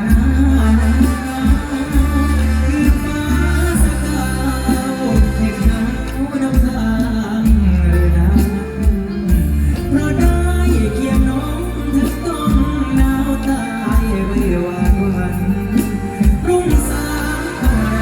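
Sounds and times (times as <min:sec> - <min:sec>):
heavy pulsing bass: 0:00.0 - 0:18.0
live band music: 0:00.0 - 0:18.0
person singing: 0:00.0 - 0:18.0.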